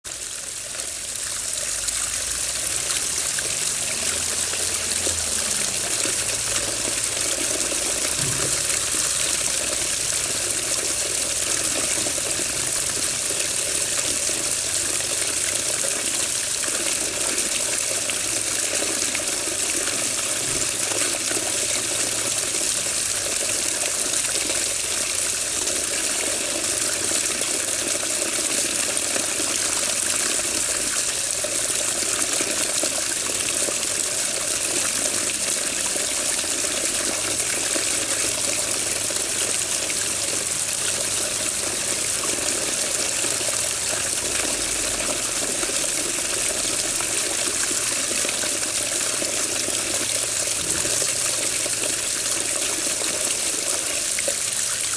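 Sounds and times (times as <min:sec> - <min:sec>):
water running: 0:01.0 - 0:54.9.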